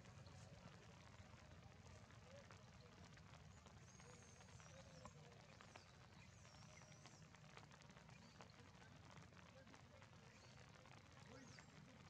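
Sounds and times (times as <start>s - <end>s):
faint rain falling: 0.0s - 12.0s.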